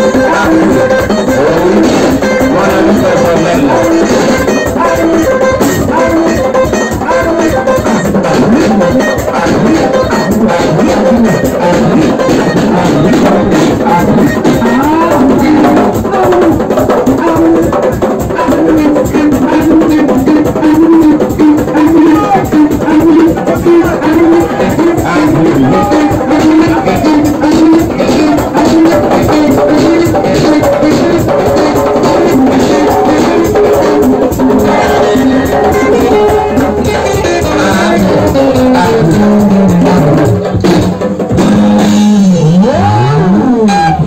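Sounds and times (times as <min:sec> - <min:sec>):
hand drums fast rhythm: 0:00.0 - 0:43.1.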